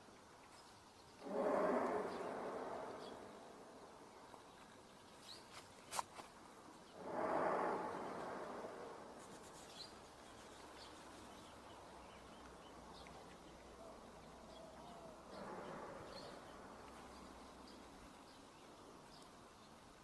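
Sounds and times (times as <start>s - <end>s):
faint outdoor hiss: 0.0s - 20.0s.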